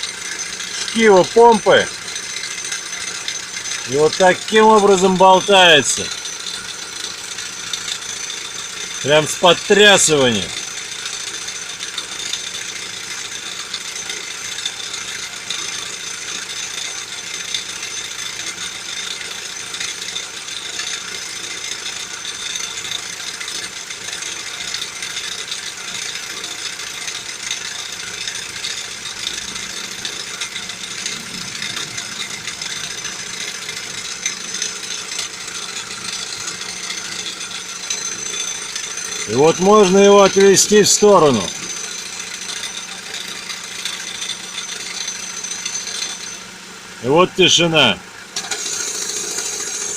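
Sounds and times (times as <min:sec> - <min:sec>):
machine running with fine rattle: 0:00.0 - 0:49.9.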